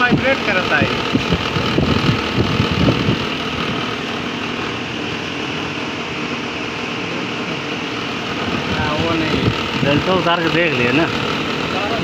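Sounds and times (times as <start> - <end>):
alternator vibrating noise: 0.0 - 6.4, 7.8 - 12.0
engine idling: 0.0 - 12.0.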